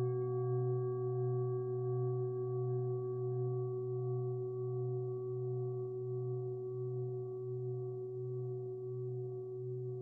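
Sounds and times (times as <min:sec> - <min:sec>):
singing bowl ringing: 0:00.0 - 0:08.6.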